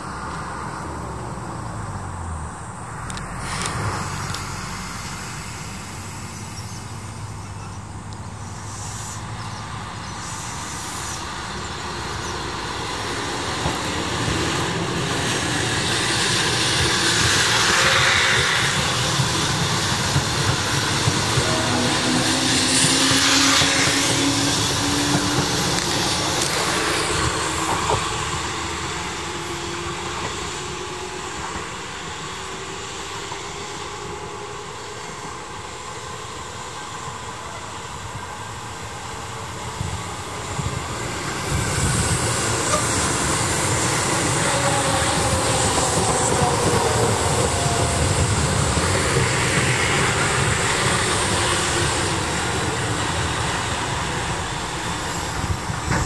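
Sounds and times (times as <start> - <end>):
electric train motor whine: 0.2 - 56.0
train wheels clattering on rails: 8.6 - 37.3, 37.9 - 56.0.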